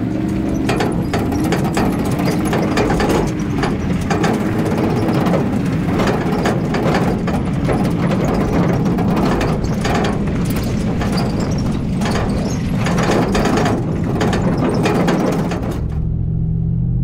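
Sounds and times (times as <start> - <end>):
steel trailer rattling on gravel: 0.0 - 16.0
engine and tyre drone: 0.0 - 17.0.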